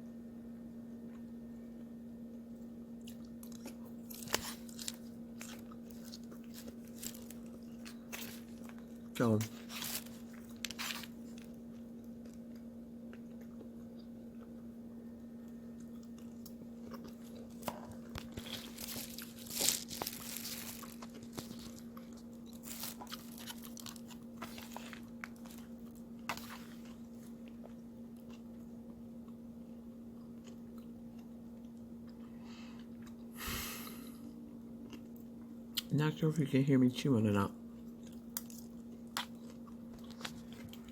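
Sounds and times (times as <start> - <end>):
steady low hum: 0.0 - 40.9
person chewing crunchy salad: 2.3 - 35.9, 37.7 - 40.9.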